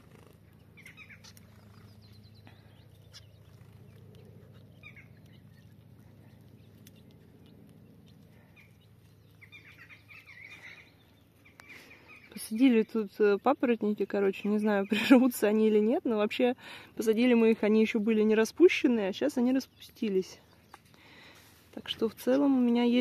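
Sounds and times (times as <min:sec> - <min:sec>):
low steady hum: 0:00.0 - 0:23.0
small birds chirping: 0:00.0 - 0:23.0.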